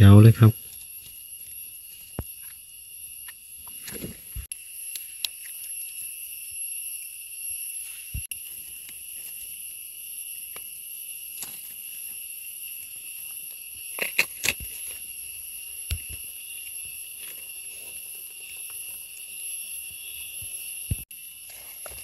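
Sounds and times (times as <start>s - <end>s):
high-pitched insect drone: 0.4s - 22.0s.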